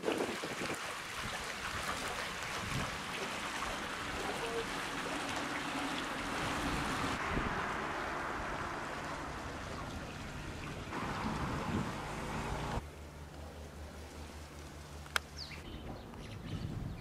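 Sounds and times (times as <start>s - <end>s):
water rushing over a weir: 0.0s - 15.0s.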